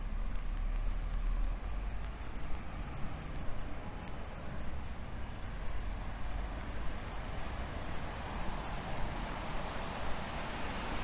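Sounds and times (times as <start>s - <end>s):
distant traffic on wet roads: 0.0s - 11.0s.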